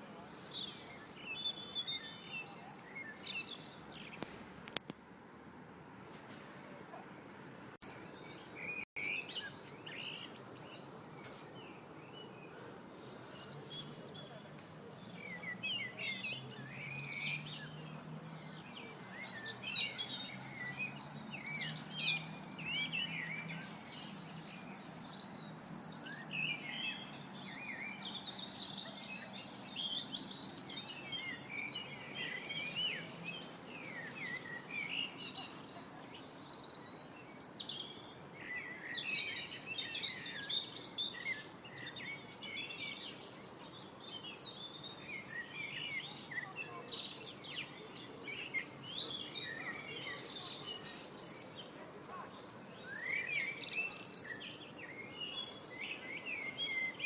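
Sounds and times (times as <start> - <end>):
songbirds chirping and singing: 0.0 - 5.0, 6.7 - 57.0.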